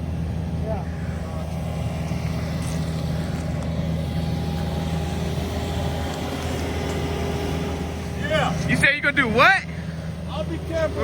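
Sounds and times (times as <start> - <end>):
truck engine hum inside cab: 0.0 - 11.0.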